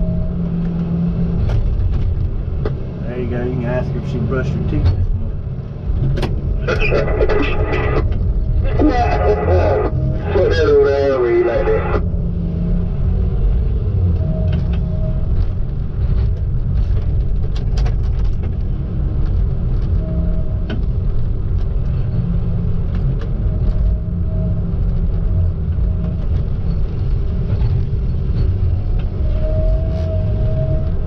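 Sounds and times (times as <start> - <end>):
diesel engine low rumble: 0.0 - 31.0.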